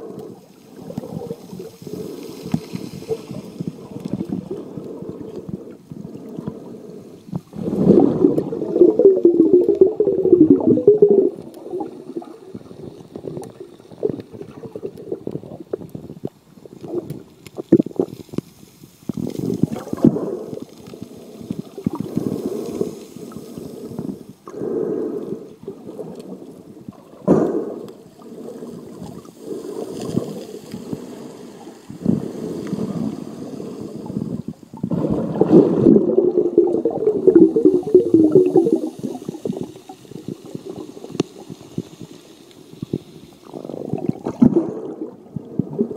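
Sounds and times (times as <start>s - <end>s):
muffled water sloshing underwater: 0.0s - 45.9s.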